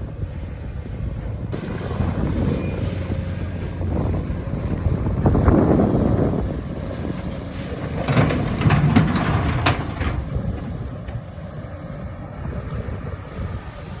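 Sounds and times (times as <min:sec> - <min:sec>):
excavator engine under load: 0:01.2 - 0:14.0.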